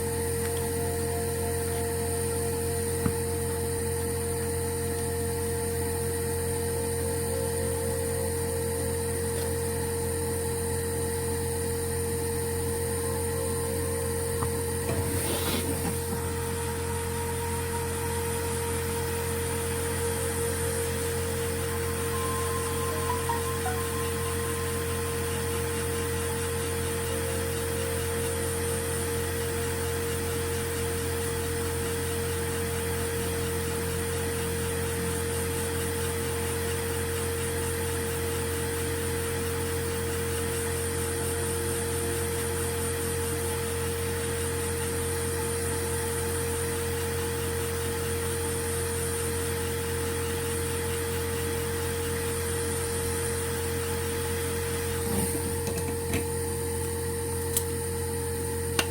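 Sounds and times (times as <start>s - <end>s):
mechanical hum with whining tones: 0.0s - 58.9s.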